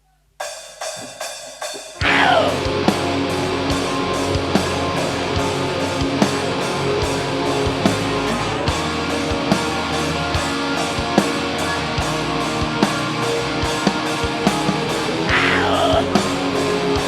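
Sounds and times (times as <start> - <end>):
live metal band playing: 2.0 - 17.0.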